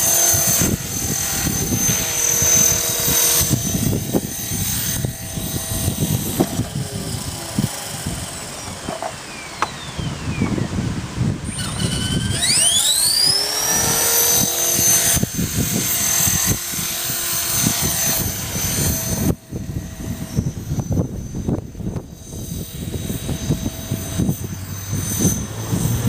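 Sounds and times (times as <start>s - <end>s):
motor whining: 0.0s - 26.0s.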